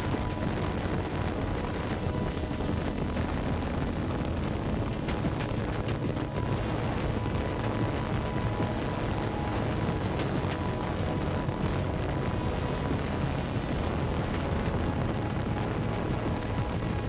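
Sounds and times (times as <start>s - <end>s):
drone propellers buzzing: 0.0s - 17.0s
wind rumble on microphone: 0.0s - 17.0s.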